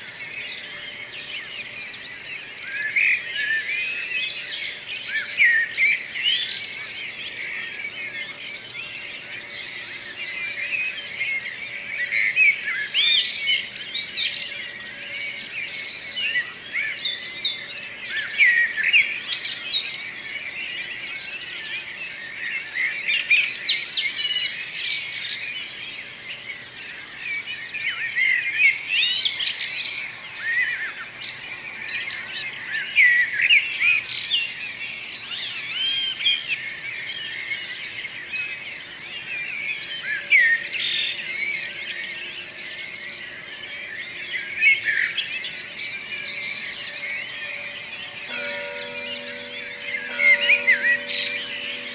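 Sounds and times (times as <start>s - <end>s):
songbirds singing: 0.0s - 51.9s.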